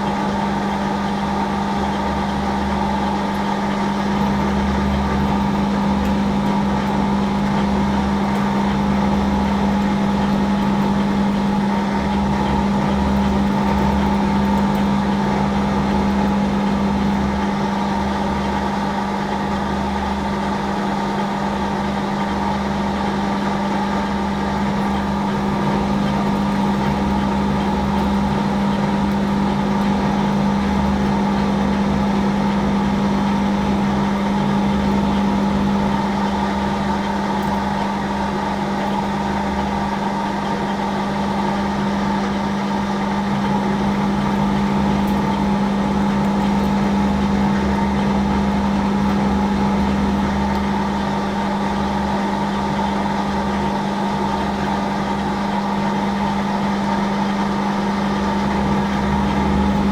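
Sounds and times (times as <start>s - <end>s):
metal lathe motor hum: 0.0s - 59.9s.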